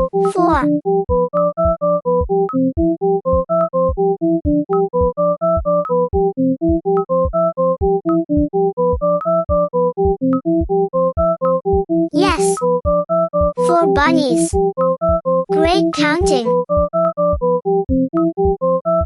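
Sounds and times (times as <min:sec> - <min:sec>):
bouncy synthesizer music: 0:00.0 - 0:19.0.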